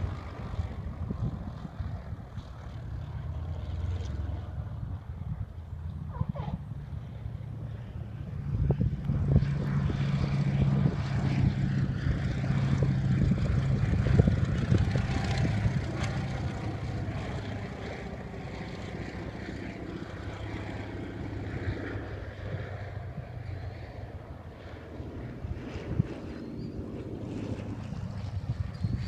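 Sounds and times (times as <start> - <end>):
propeller plane droning: 0.0 - 29.0.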